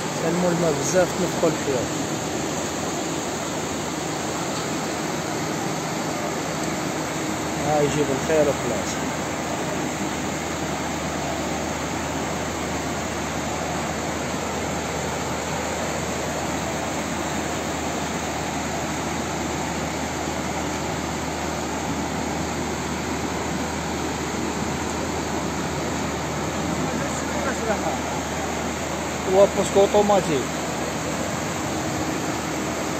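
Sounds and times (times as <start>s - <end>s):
floodwater rushing: 0.0s - 32.9s.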